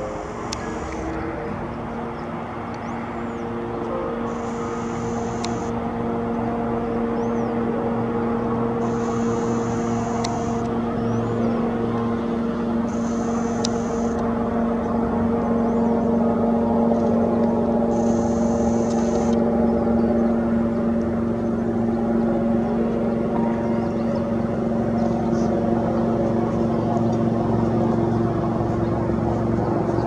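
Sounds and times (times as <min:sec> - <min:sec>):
helicopter engine and rotor whine: 0:00.0 - 0:30.0.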